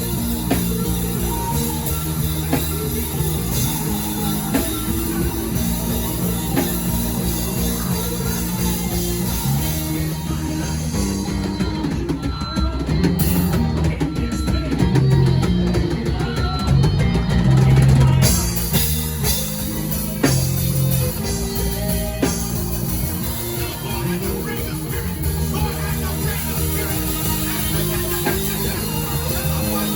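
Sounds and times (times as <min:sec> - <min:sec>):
live band playing worship music: 0:00.0 - 0:29.9.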